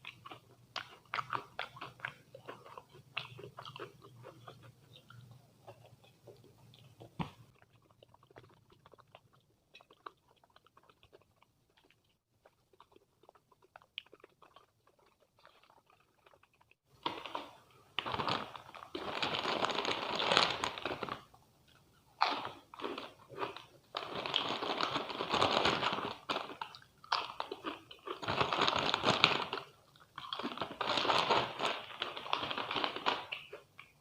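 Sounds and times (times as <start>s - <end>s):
faint chewing with wet clicks: 0.0s - 19.0s, 20.5s - 34.0s.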